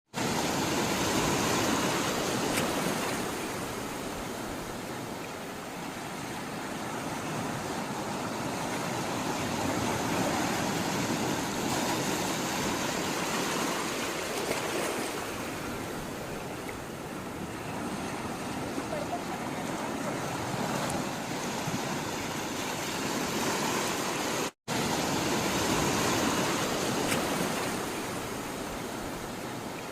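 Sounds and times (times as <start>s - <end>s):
sea water rushing: 0.2s - 29.9s.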